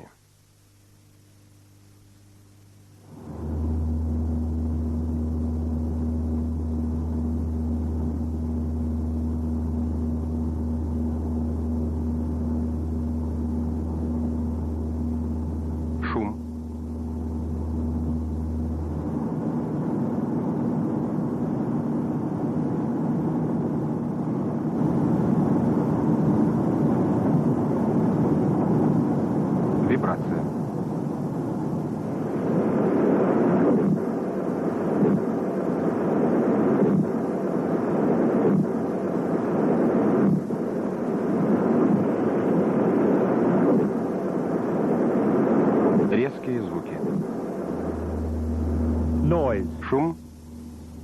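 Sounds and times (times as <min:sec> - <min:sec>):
constant hum: 0:00.0 - 0:51.0
low rumbling drone: 0:02.9 - 0:51.0.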